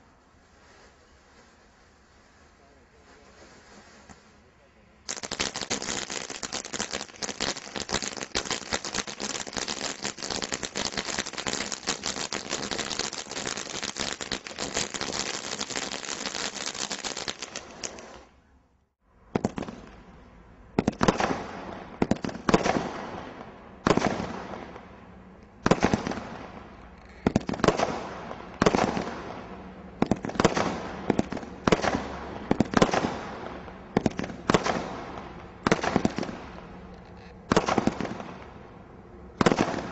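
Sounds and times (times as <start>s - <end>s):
fireworks crackling: 0.0s - 18.4s, 19.3s - 20.2s, 20.8s - 39.9s
loud firework bangs: 5.1s - 18.3s, 19.3s - 39.9s.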